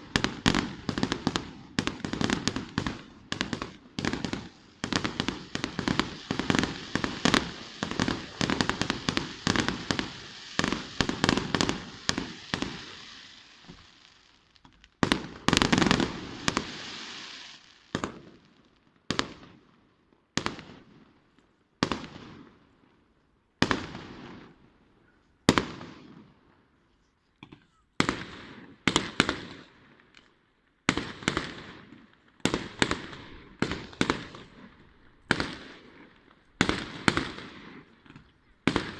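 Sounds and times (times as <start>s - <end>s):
fireworks bangs and crackling: 0.0s - 26.8s, 27.4s - 38.9s.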